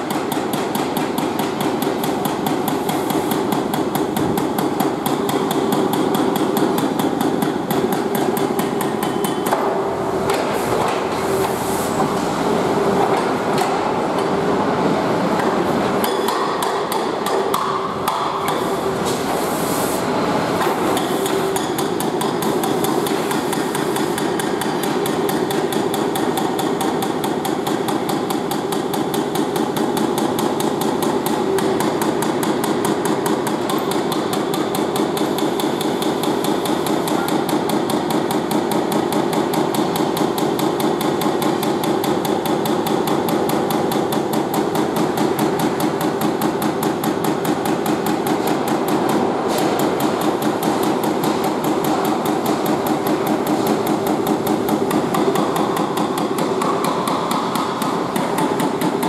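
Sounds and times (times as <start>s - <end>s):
hydraulic breaker hammering brick: 0.0s - 11.1s, 15.4s - 18.8s, 20.6s - 59.0s.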